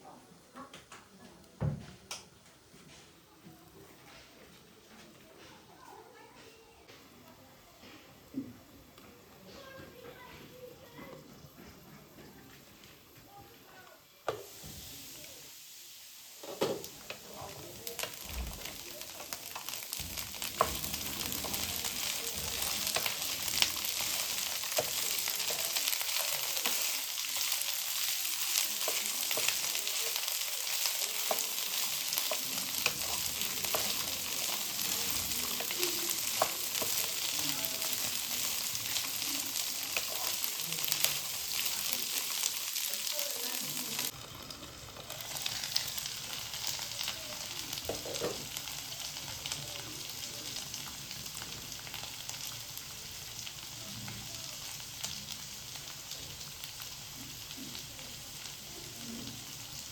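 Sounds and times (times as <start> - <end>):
food sizzling in a pan: 4.0 - 59.9.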